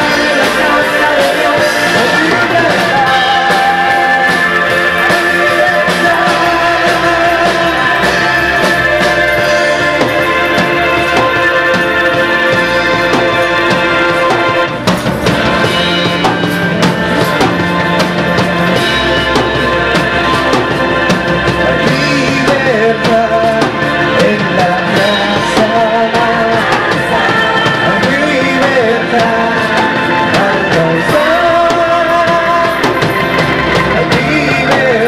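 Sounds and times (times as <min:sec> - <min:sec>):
people singing along: 0:00.0 - 0:35.0.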